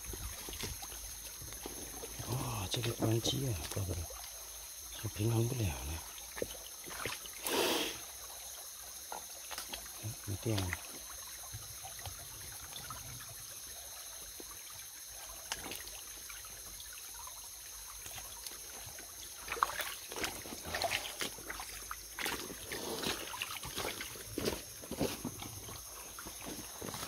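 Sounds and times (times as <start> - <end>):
splashing in shallow water: 0.0 - 8.4, 9.0 - 27.0
stream water trickling: 0.0 - 27.0.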